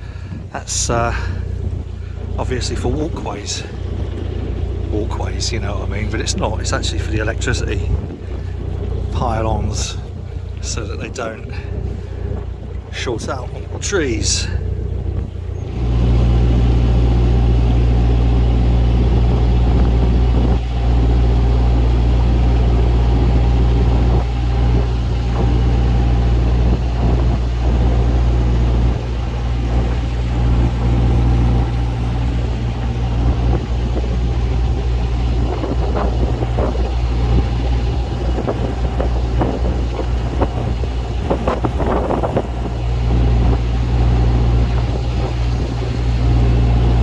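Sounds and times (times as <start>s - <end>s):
diesel boat engine droning: 0.0s - 47.0s
wind noise: 0.0s - 47.0s.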